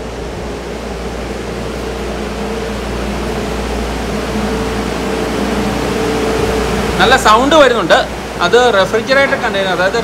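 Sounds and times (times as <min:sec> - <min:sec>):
refrigeration compressors humming: 0:00.0 - 0:10.0.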